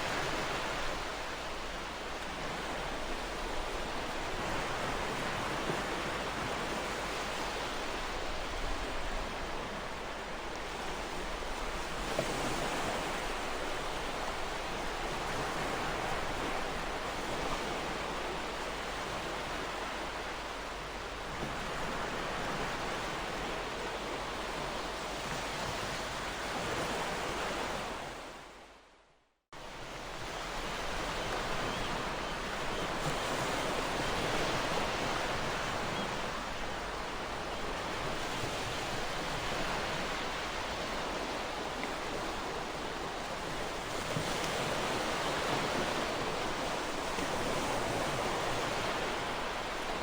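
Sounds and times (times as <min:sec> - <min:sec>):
ocean waves breaking on shore: 0:00.0 - 0:28.8, 0:29.6 - 0:50.0.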